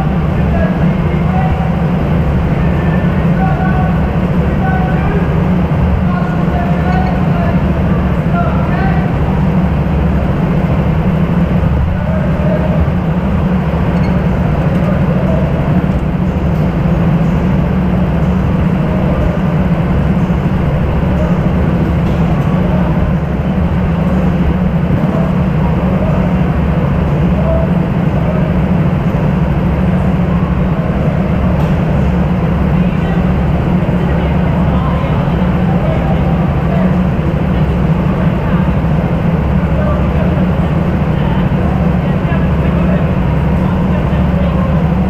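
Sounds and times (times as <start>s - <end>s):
go-kart engine droning: 0.0s - 45.0s.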